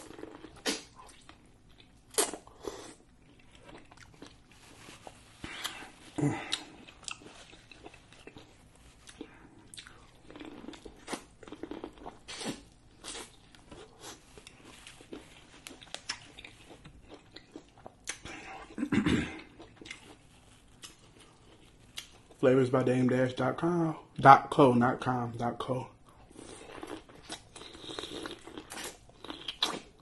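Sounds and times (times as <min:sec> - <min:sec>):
mouth chewing corn: 0:00.0 - 0:22.4, 0:26.1 - 0:30.0.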